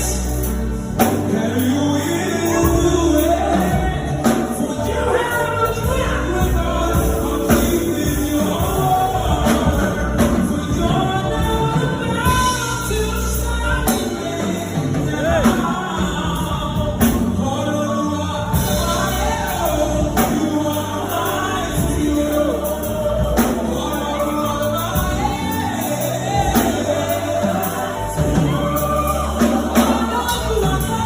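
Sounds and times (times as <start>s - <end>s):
gospel singing: 0.0s - 31.0s
instrumental backing music: 0.0s - 31.0s.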